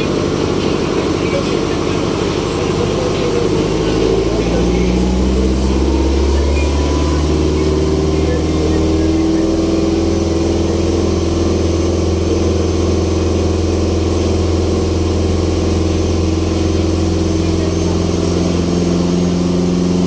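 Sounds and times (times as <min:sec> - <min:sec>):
heavy engine humming with whine: 0:00.0 - 0:20.0.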